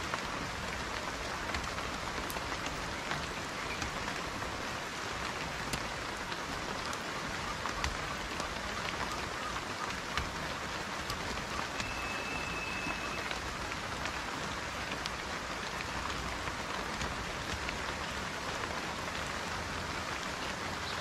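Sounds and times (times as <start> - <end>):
raindrops ticking: 0.0 - 21.0
steady rain hiss: 0.0 - 21.0.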